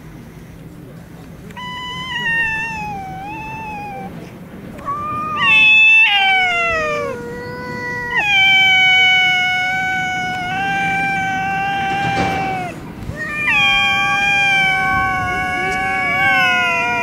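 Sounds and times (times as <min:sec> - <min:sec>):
cats caterwauling: 0:01.5 - 0:17.0.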